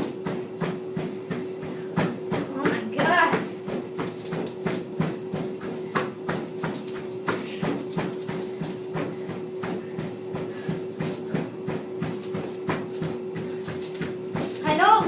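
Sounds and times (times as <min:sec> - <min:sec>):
footfalls on treadmill belt: 0:00.0 - 0:15.0
treadmill motor hum: 0:00.0 - 0:15.0.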